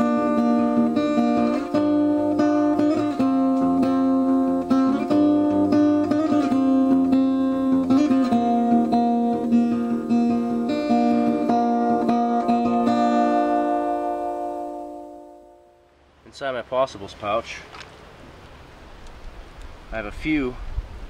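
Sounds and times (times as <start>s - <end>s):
acoustic guitar music: 0.0s - 17.6s.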